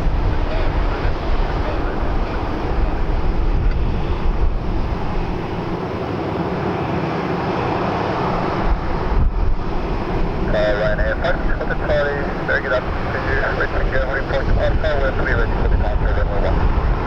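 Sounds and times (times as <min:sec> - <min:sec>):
aircraft engines running: 0:00.0 - 0:17.0.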